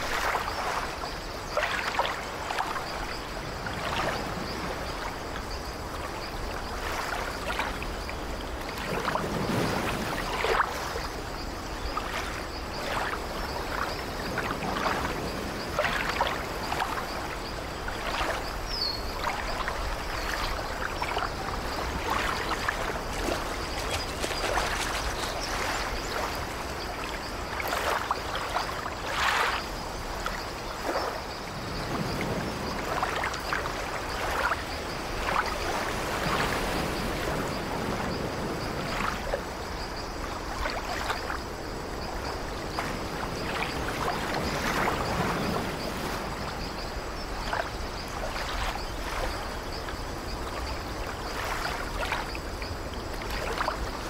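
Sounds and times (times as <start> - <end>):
sea waves splashing at shore: 0.0 - 54.0.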